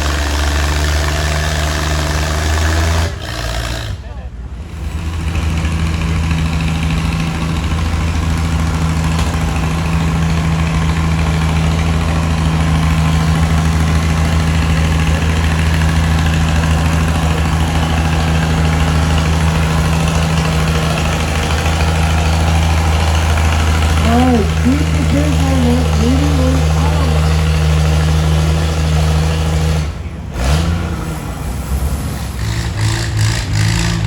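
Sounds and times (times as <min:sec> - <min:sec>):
tractor engine droning: 0:00.0 - 0:34.0.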